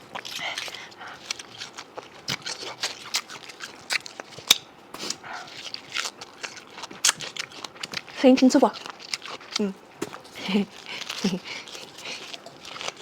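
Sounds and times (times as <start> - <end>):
crunchy bites: 0.0 - 13.0
wet chewing clicks: 0.0 - 13.0.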